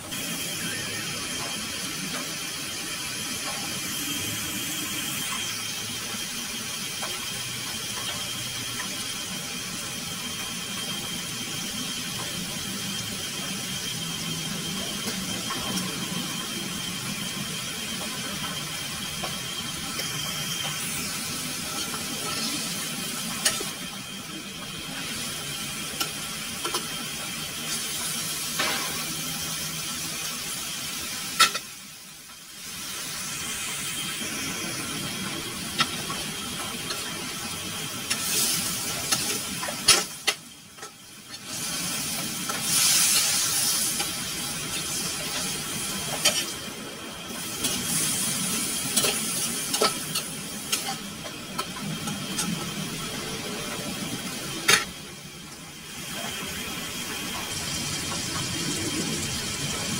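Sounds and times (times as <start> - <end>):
chicken sizzling in a wok: 0.0 - 59.9.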